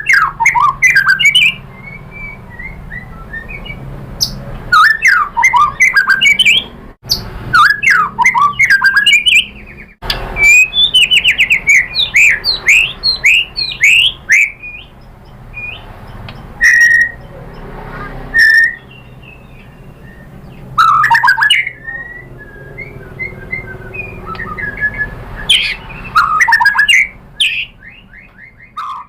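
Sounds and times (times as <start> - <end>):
bird singing whistled notes: 0.0 - 17.7, 18.3 - 29.0
soft bird chirps: 0.0 - 29.0.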